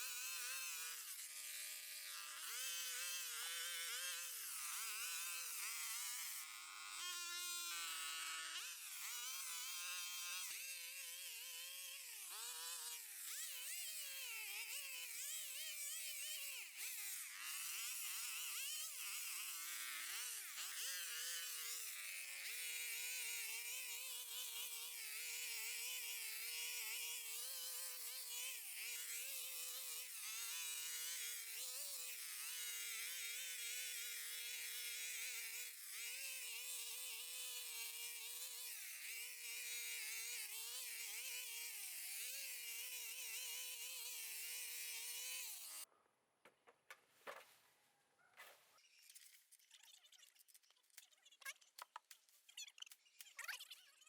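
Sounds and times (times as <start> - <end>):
small motor buzzing: 0.0 - 45.9, 48.7 - 54.0.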